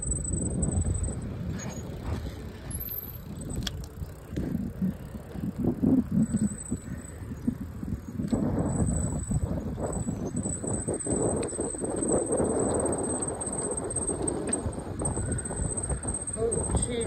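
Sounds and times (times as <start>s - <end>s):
bicycle rolling on dirt path: 0.0s - 17.0s.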